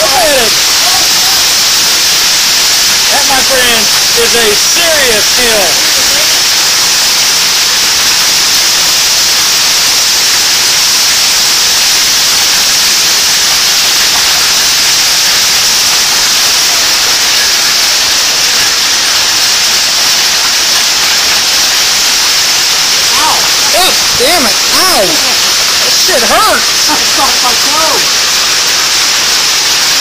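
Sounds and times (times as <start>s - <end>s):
heavy hail and rain on pavement: 0.0s - 30.0s.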